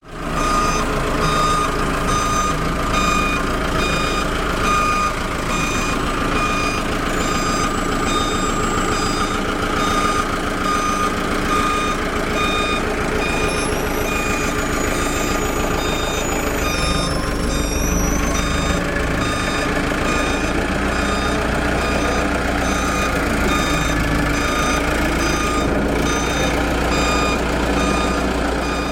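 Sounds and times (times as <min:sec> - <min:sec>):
truck engine running: 0:00.0 - 0:28.9
truck reversing alarm beeping: 0:00.0 - 0:28.9.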